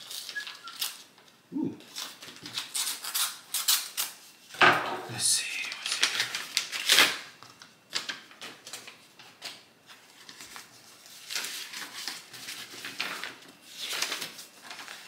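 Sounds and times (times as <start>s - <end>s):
paper rustling and crinkling: 0.0s - 4.6s, 5.6s - 15.0s.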